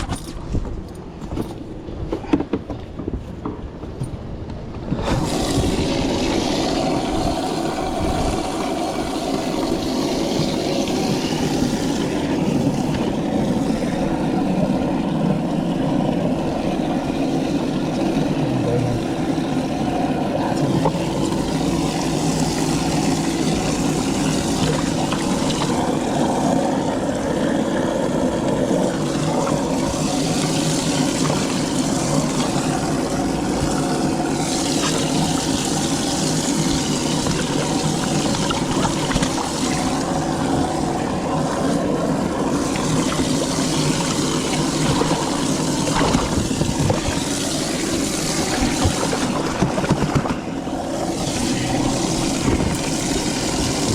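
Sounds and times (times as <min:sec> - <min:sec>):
outboard motor running: 0:00.0 - 0:53.9
water and wind rushing: 0:00.0 - 0:53.9.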